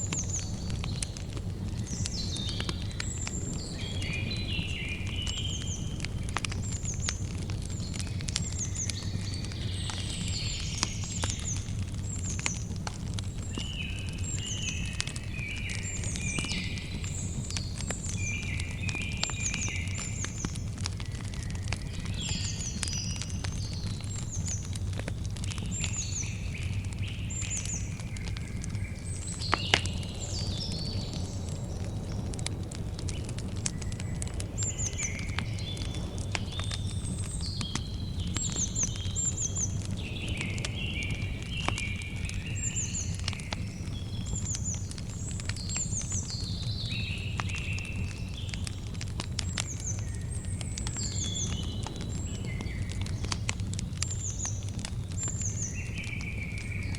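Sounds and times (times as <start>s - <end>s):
birds chirping: 0.0s - 56.9s
campfire crackling and popping: 0.0s - 56.9s.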